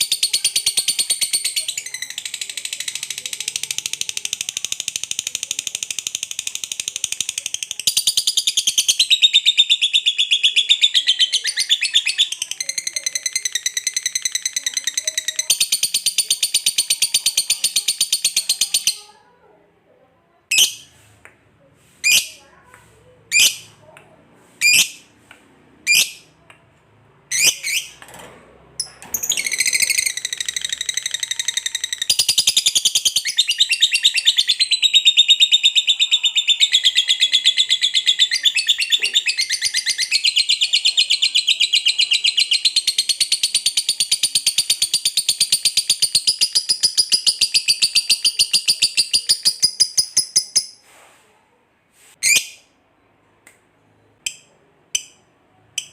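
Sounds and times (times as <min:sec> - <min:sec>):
lovebird chirping and trilling: 0:00.0 - 0:19.1, 0:20.5 - 0:21.0, 0:22.0 - 0:22.5, 0:23.3 - 0:23.8, 0:24.6 - 0:25.1, 0:25.8 - 0:26.4, 0:27.2 - 0:28.0, 0:28.8 - 0:50.8, 0:52.2 - 0:52.7.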